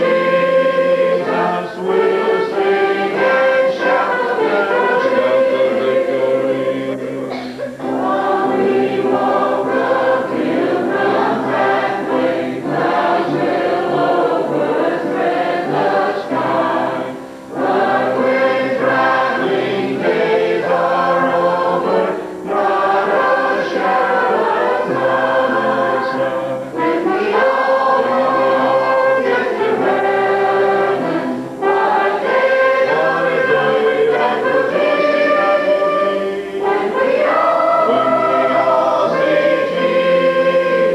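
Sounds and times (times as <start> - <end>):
congregation and choir singing hymn: 0.0 - 40.9.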